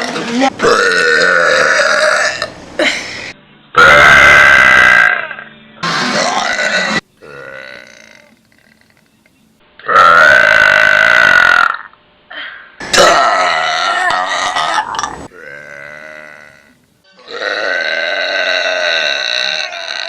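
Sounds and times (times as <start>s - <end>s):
person burping: 0.0s - 2.5s, 3.8s - 9.0s, 9.8s - 12.0s, 12.8s - 20.0s.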